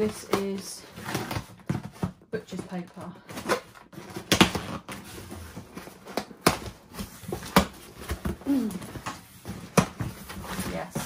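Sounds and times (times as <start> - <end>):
cardboard parcel being opened: 0.0 - 11.0.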